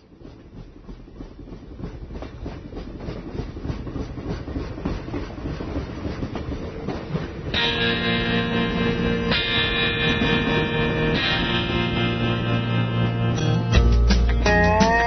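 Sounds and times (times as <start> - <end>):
train wheels clacking on rails: 0.0 - 12.8.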